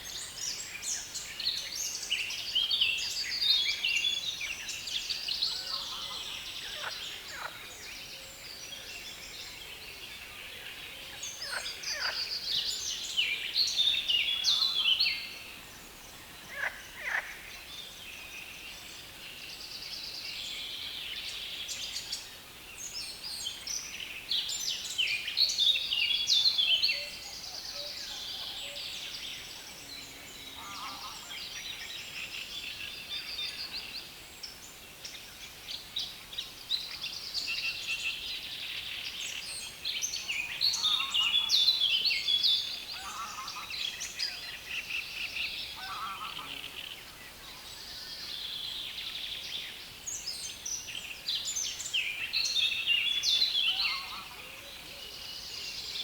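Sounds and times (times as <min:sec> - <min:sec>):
songbirds chattering song: 0:00.0 - 0:56.0.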